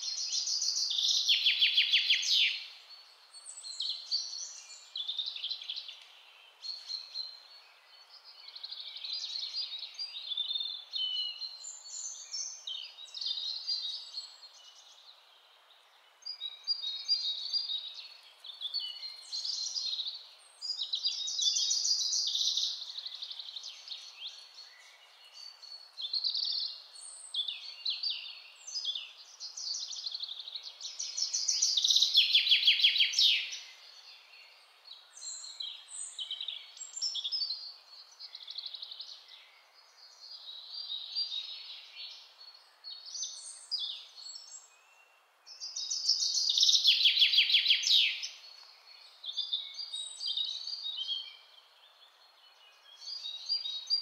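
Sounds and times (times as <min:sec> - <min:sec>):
faint steady hiss: 0:00.0 - 0:54.0
songbirds singing: 0:00.0 - 0:54.0.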